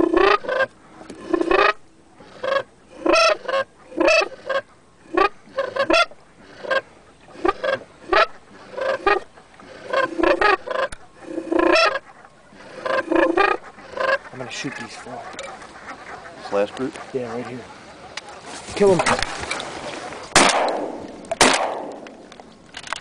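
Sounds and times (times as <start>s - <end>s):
waterfowl honking and quacking: 0.0s - 20.4s.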